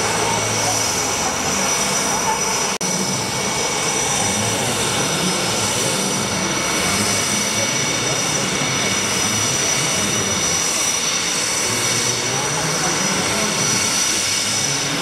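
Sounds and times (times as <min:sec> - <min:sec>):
jet engine idling with high whine: 0:00.0 - 0:15.0.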